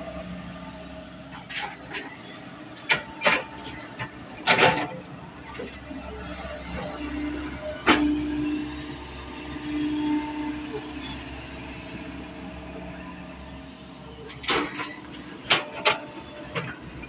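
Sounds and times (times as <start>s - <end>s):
excavator engine humming: 0.0s - 17.0s.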